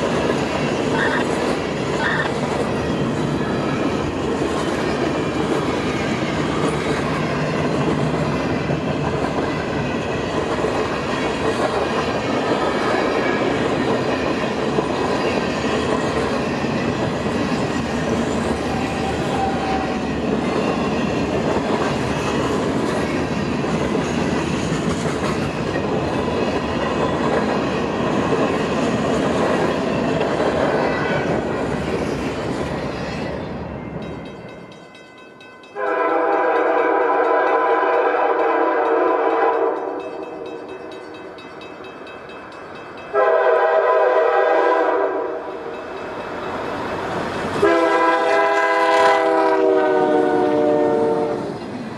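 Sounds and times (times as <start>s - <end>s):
train wheels clacking on rails: 0.0s - 51.9s.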